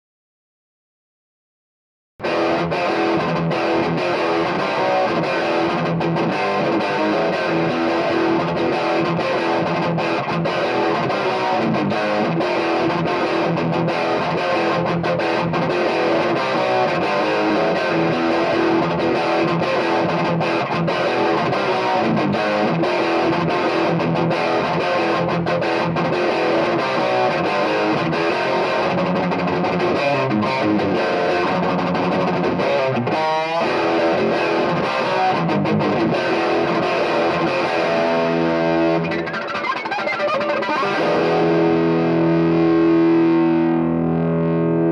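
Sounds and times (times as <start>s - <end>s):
distorted electric guitar riffing: 2.2s - 44.9s.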